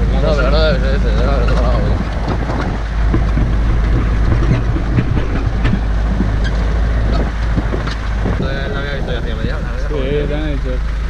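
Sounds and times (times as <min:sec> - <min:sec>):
engine and tyres rumbling: 0:00.0 - 0:11.0
vehicle body rattling and knocking: 0:00.0 - 0:11.0.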